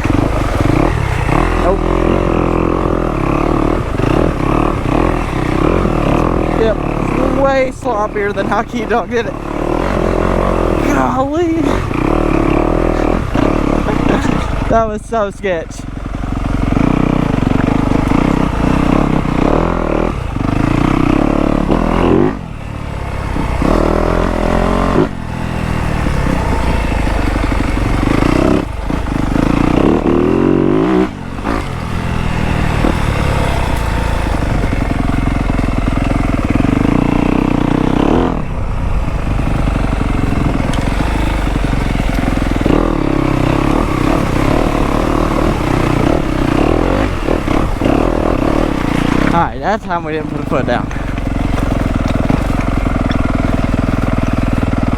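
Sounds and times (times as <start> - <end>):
dirt bike engine under load: 0.0 - 54.9.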